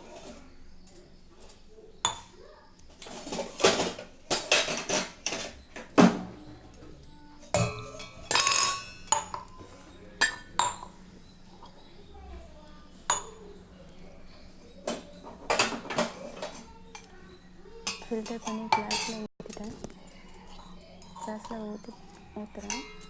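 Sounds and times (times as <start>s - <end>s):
pots and dishes clattering: 0.0s - 23.0s.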